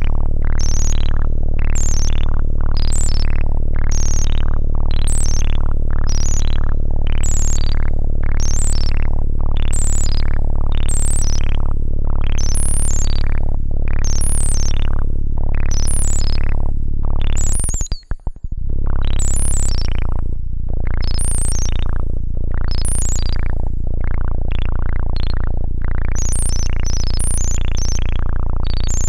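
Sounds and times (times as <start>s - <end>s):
buzzy synthesizer filter sweeps: 0.0s - 29.0s.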